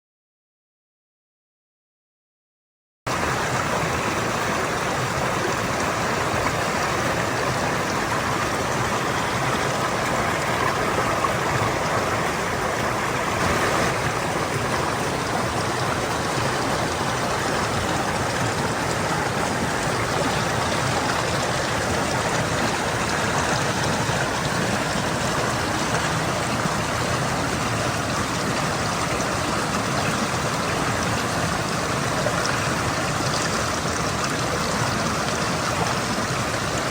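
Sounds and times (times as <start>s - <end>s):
stream flowing over rocks: 3.1s - 36.9s.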